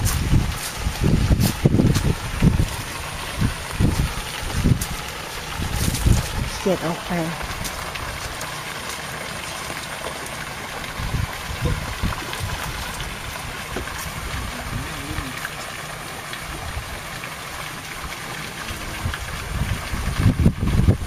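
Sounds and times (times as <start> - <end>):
water sloshing and trickling: 0.0 - 21.0.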